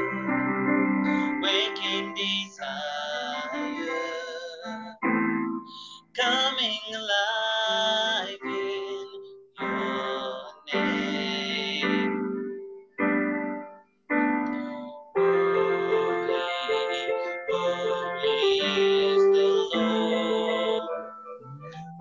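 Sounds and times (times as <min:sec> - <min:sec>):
keyboard chords: 0:00.0 - 0:06.6, 0:07.7 - 0:22.0
person singing: 0:00.0 - 0:12.6, 0:14.3 - 0:22.0.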